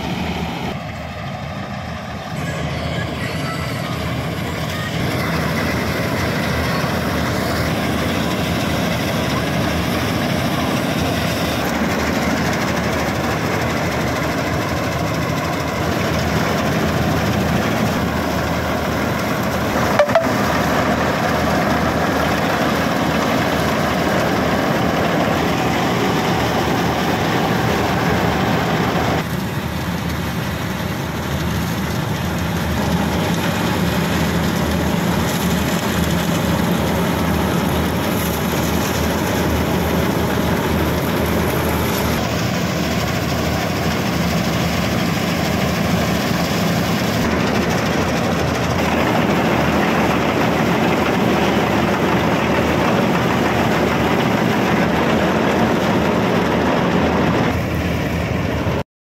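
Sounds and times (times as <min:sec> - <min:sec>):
combine harvester running: 0:00.0 - 0:58.8.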